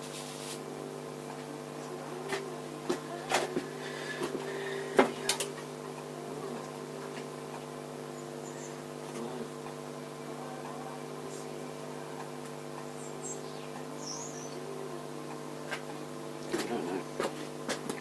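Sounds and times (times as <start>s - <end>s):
steady tonal hum: 0.0s - 18.0s.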